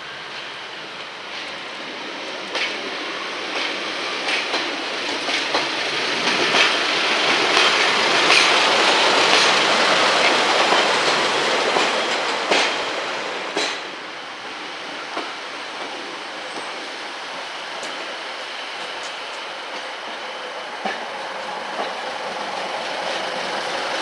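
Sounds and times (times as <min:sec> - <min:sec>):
train wheels clicking over rail joints: 0:02.3 - 0:16.8, 0:17.7 - 0:24.0.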